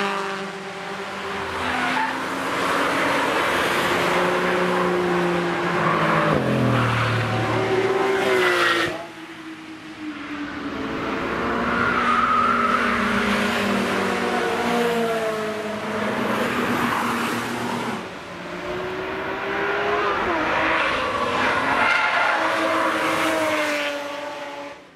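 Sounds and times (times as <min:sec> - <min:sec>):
cars passing at speed: 0:00.0 - 0:24.9.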